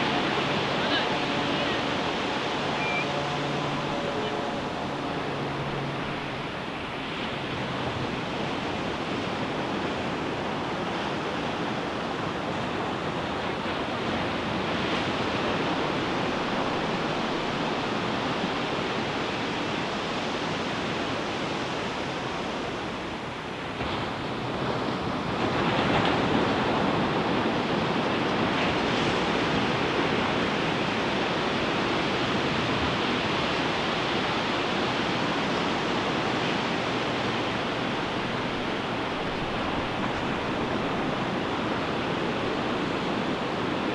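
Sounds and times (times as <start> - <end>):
ocean surf breaking: 0.0 - 18.0, 24.2 - 43.9.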